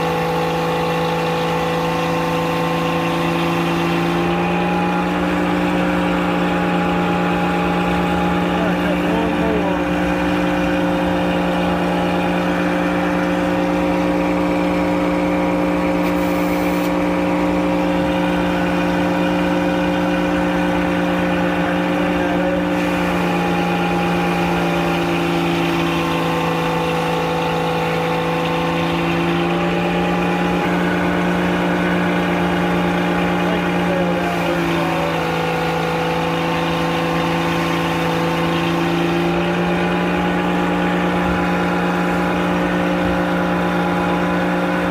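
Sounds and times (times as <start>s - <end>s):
sawmill humming: 0.0s - 44.9s.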